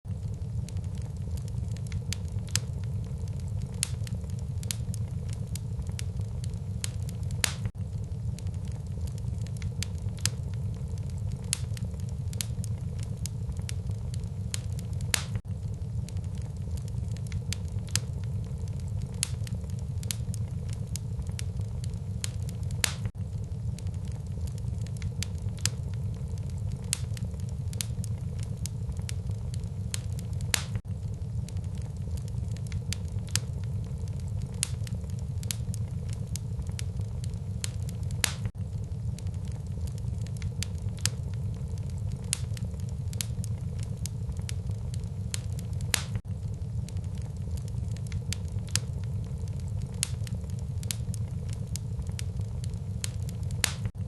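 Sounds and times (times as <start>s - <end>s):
fire crackling and popping: 0.0s - 54.0s
low fire rumble: 0.0s - 54.0s.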